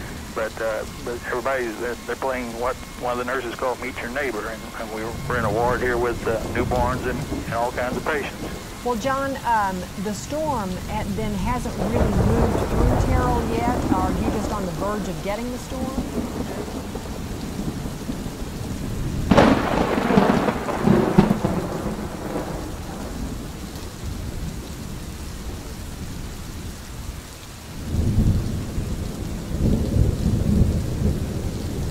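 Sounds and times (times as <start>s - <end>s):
steady rain: 0.0s - 31.9s
thunder clap and rumble: 0.0s - 31.9s.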